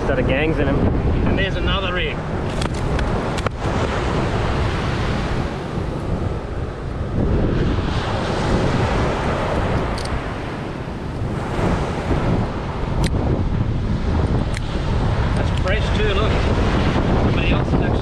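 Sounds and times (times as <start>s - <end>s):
surf washing onto beach: 0.0s - 18.0s
wind buffeting microphone: 0.0s - 18.0s.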